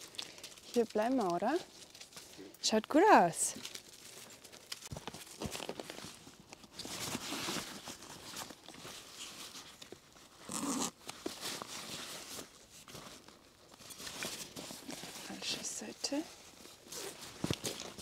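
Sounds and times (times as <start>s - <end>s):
rustling and crinkling handling noises: 0.0s - 18.0s.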